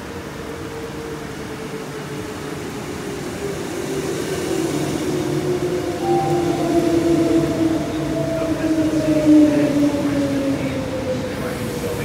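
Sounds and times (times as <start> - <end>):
electric train rumbling: 0.0 - 12.0
train whine: 0.1 - 12.0.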